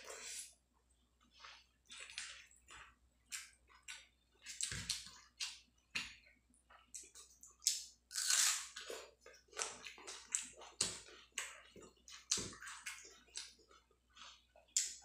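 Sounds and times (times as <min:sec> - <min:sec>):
wet chewing squishes: 0:01.2 - 0:07.9, 0:08.7 - 0:15.0.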